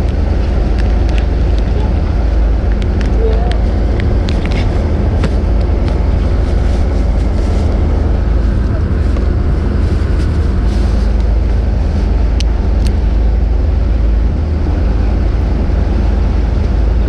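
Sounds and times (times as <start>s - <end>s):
boat engine rumbling: 0.0s - 17.0s
wind on microphone: 0.0s - 17.0s.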